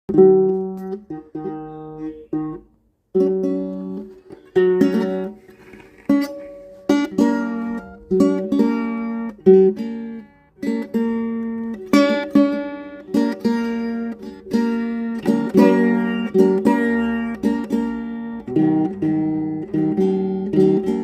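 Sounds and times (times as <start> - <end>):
acoustic guitar strummed chords: 0.1 - 21.0.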